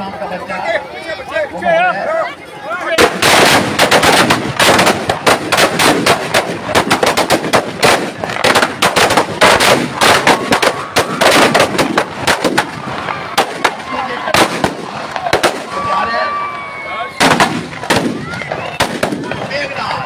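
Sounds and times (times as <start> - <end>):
firecrackers banging: 2.9 - 20.0.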